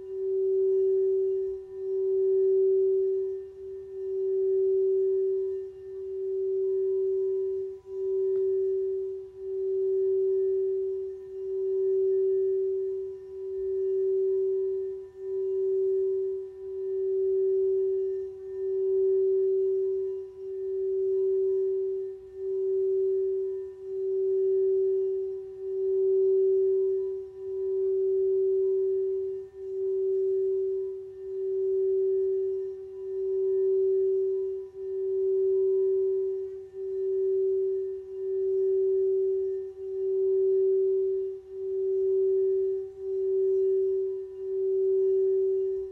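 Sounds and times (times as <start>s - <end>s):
singing bowl tone: 0.0s - 45.9s.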